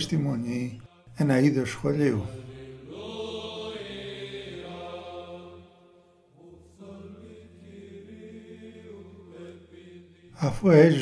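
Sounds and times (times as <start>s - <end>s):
chant with long held notes: 0.0s - 11.0s.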